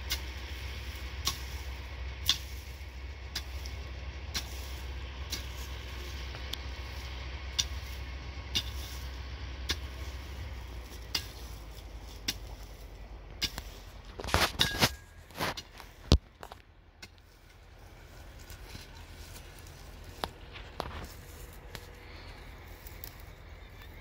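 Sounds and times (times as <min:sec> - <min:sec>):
hoe scraping hard ground: 0:00.0 - 0:23.4
low steady rumble: 0:00.0 - 0:24.0.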